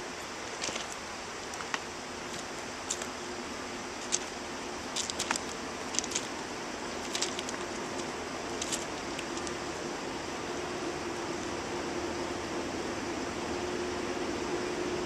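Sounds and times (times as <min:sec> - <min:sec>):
faint low hum: 0:00.0 - 0:15.0
steady outdoor hiss: 0:00.0 - 0:15.0.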